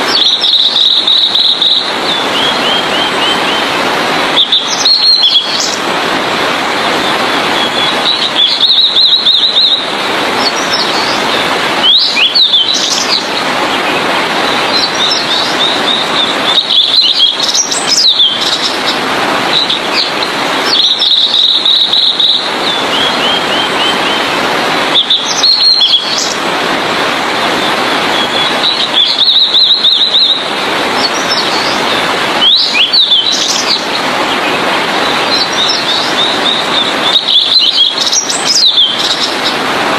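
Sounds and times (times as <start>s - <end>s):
bird singing high twitters: 0.0s - 3.7s, 4.4s - 5.8s, 7.1s - 24.3s, 24.9s - 26.4s, 28.2s - 39.6s
loud steady hiss: 0.0s - 39.9s.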